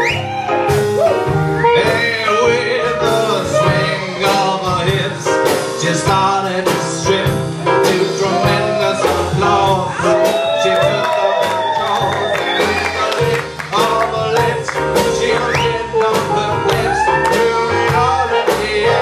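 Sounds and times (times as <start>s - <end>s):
live band playing instrumental: 0.0s - 19.0s
steady drum beat: 0.0s - 19.0s.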